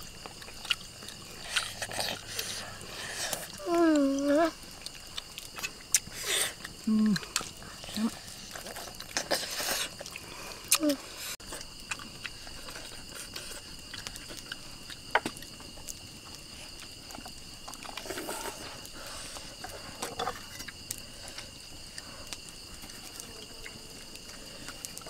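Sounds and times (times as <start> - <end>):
night insects trilling: 0.0 - 25.0
soft clicks and rustles of eating: 0.0 - 25.0.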